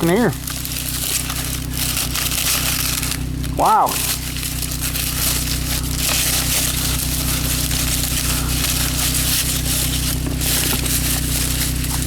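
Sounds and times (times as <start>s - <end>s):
corn husks crackling and rustling: 0.0s - 12.0s
engine idling: 0.0s - 12.0s.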